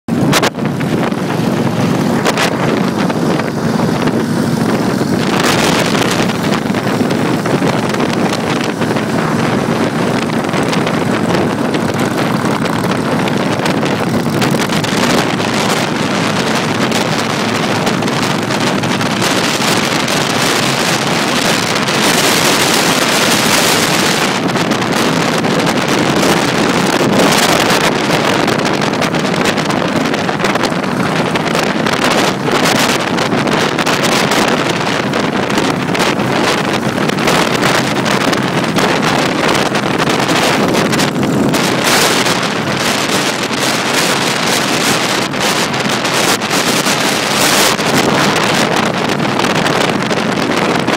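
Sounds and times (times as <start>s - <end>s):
motorcycle engines running: 0.0s - 50.9s
wind buffeting microphone: 0.1s - 50.9s.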